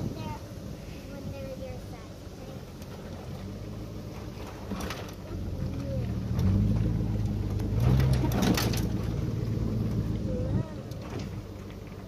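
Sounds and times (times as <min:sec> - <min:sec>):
pickup truck engine rumble: 0:00.0 - 0:12.0.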